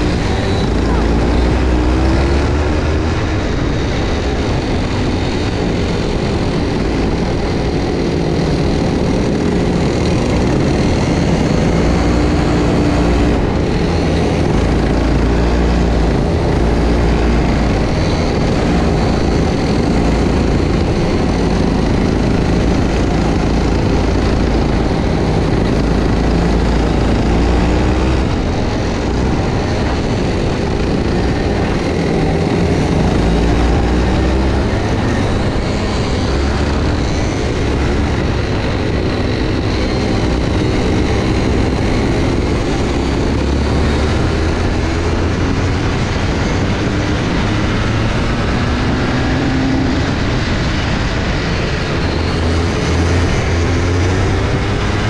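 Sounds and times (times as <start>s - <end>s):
go-kart engine revving: 0.0s - 55.0s
heavy low rumble: 0.0s - 55.0s.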